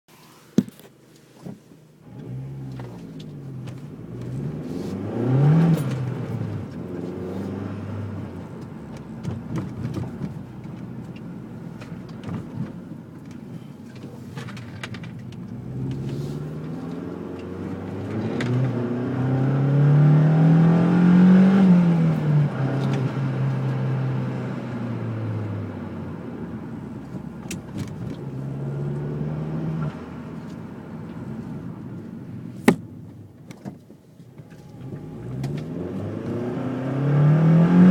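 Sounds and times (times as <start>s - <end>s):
car engine idling and revving: 0.2s - 37.9s.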